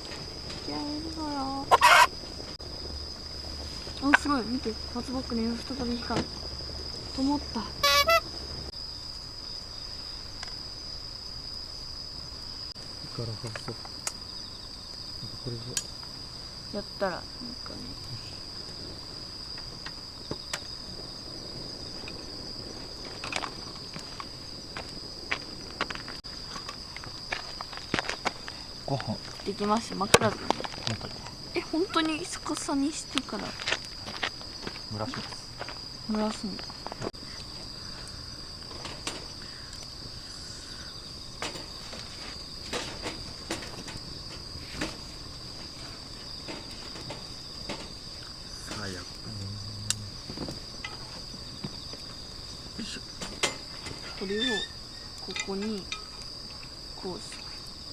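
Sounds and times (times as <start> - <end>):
wood fire crackling: 0.0 - 16.8, 17.4 - 57.9
crickets trilling: 0.0 - 57.9
insects chirring: 0.0 - 57.9.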